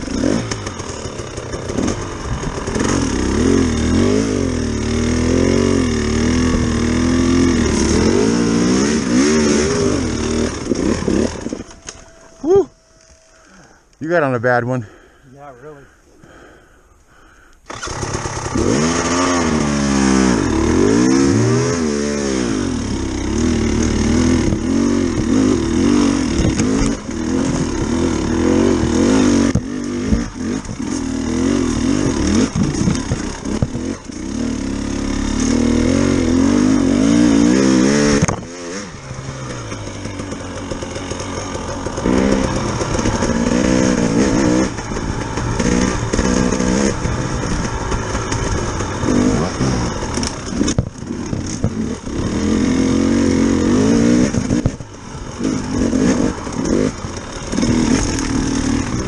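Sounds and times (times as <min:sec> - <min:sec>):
dirt bike engine revving: 0:00.0 - 0:15.0, 0:17.7 - 0:59.0.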